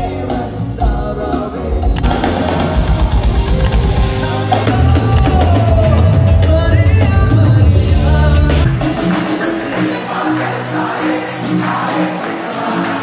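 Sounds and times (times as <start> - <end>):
live band playing: 0.0 - 13.0
person singing: 0.0 - 13.0.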